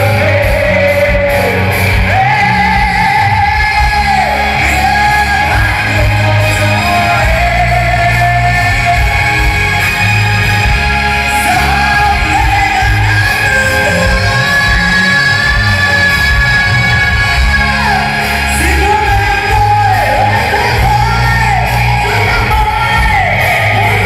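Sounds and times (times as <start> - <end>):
man singing long notes: 0.0 - 9.9, 11.2 - 24.0
live rock band playing: 0.0 - 24.0.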